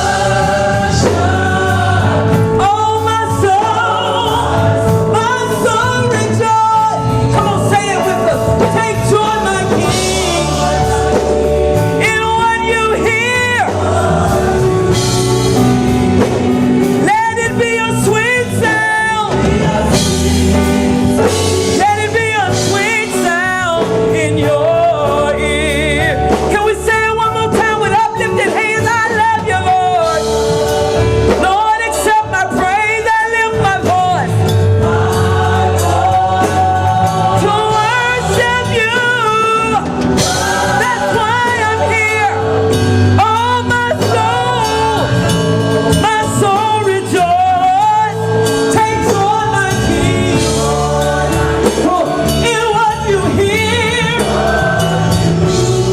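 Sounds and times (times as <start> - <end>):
gospel group singing: 0.0 - 55.9
steady bass line: 0.0 - 55.9.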